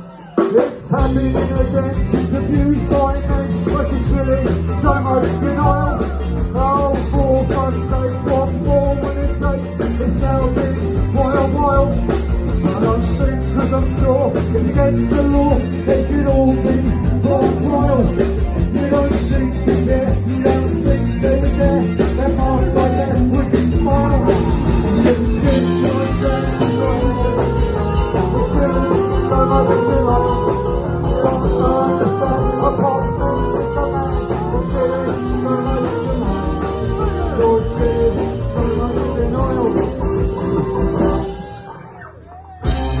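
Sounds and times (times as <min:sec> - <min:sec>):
drums and bass beat: 0:00.0 - 0:43.0
live band playing upbeat song: 0:00.0 - 0:43.0
man singing: 0:00.2 - 0:41.6.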